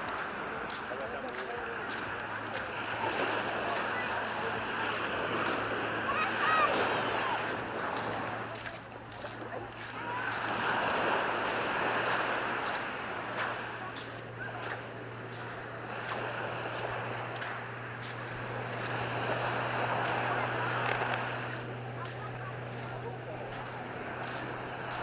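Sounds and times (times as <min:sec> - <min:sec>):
sea waves washing onto beach: 0:00.0 - 0:25.0.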